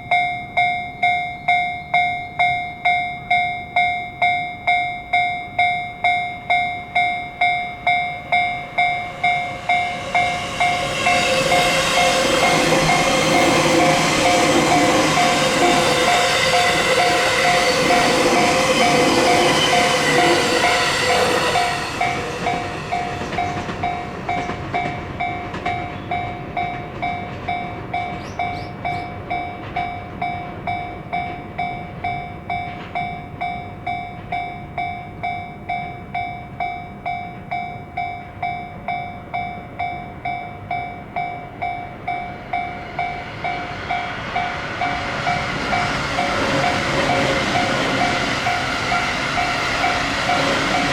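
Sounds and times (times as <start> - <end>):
electric train passing: 0.0 - 50.9
level crossing warning bell: 0.0 - 50.9.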